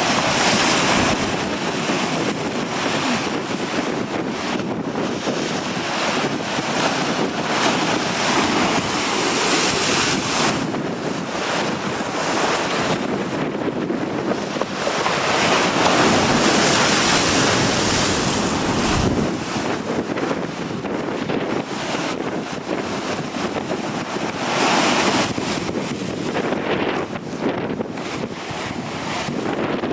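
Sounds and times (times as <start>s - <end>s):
gusty wind on microphone: 0.0s - 29.9s
waves breaking on shore: 0.0s - 29.9s.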